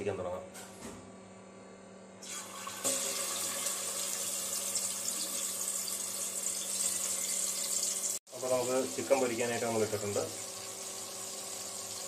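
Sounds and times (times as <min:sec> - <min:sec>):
oil sizzling: 0:02.2 - 0:12.0.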